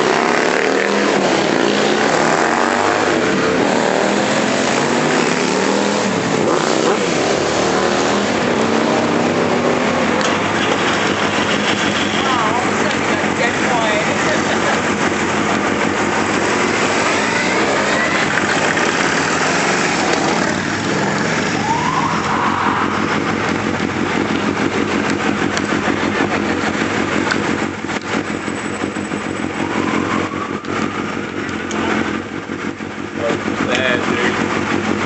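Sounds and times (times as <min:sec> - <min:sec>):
motorcycle engines revving: 0:00.0 - 0:35.0
motorcycles riding past: 0:00.0 - 0:35.0.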